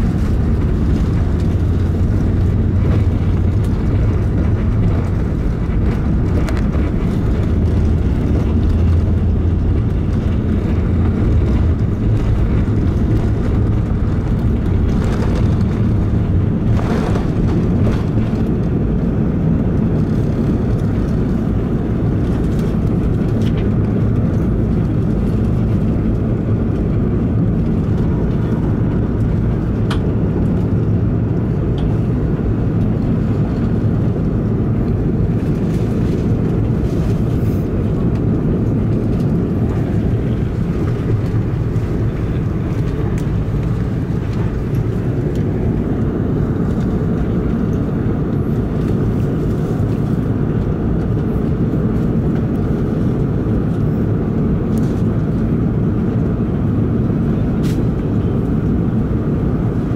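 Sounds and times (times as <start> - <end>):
jet engines roaring in cabin: 0.0 - 59.9
low rumble: 0.0 - 59.9.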